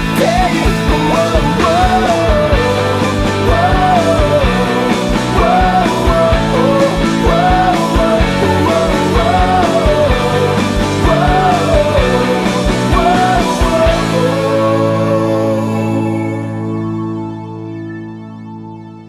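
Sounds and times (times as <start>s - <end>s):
song with steady beat: 0.0s - 15.6s.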